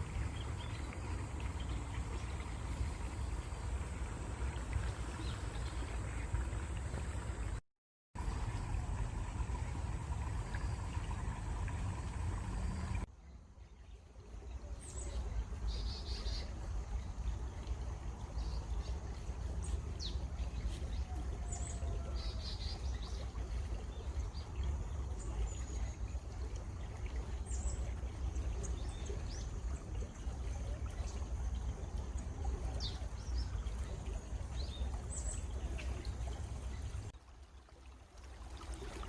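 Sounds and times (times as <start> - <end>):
running water: 0.0 - 7.6, 8.2 - 39.0.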